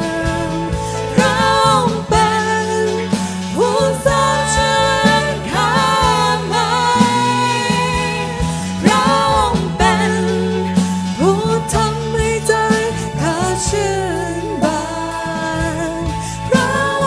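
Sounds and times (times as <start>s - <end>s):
instrumental accompaniment: 0.0s - 17.0s
women singing into microphones: 0.0s - 17.0s.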